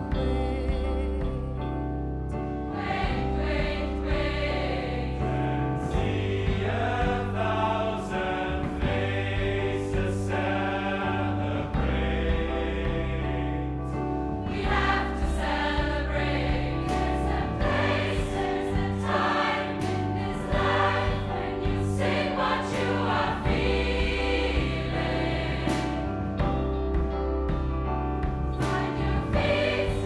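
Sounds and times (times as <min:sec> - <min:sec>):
bass low notes: 0:00.0 - 0:30.0
piano: 0:00.0 - 0:30.0
choir singing: 0:02.7 - 0:26.4, 0:28.5 - 0:30.0
drum and cymbal hits: 0:03.0 - 0:05.2, 0:05.8 - 0:13.2, 0:14.5 - 0:30.0.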